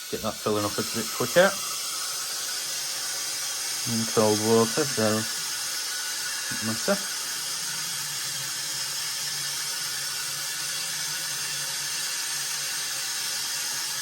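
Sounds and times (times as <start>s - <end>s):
water rushing into tub: 0.0s - 14.0s.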